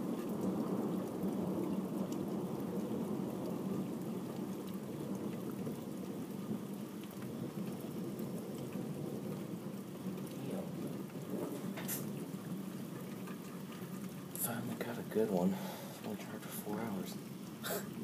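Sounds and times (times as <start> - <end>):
low rumbling thunder: 0.0 - 18.0
steady rain: 0.0 - 18.0.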